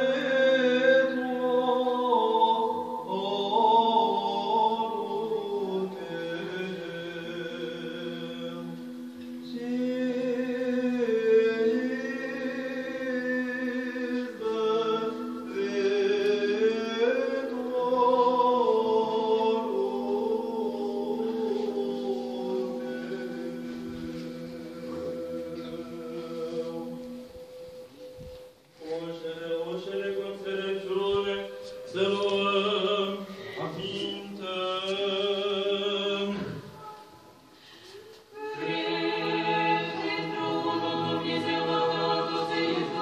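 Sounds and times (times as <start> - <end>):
voices chanting slow melody: 0.0 - 43.0.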